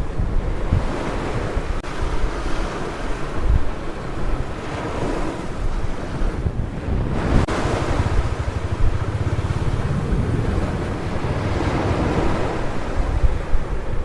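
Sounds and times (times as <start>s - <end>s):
sea waves breaking on beach: 0.0s - 14.0s
wind buffeting microphone: 0.0s - 14.0s.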